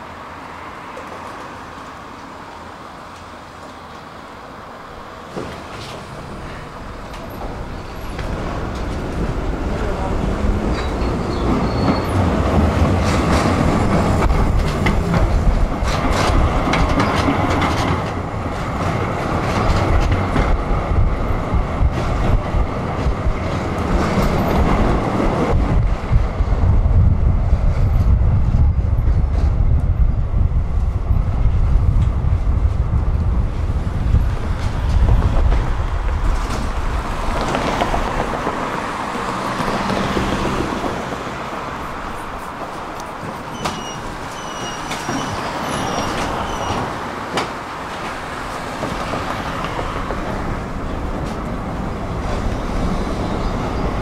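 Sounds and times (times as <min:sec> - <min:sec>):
tram wheels rumbling: 0:00.0 - 0:54.0
clacks over rail track: 0:00.5 - 0:04.1, 0:05.2 - 0:54.0.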